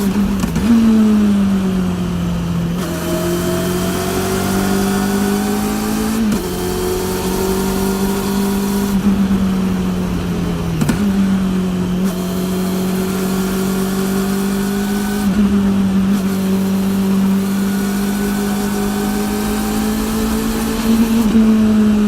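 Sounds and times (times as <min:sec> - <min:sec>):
motorcycle engine: 0:00.0 - 0:22.0.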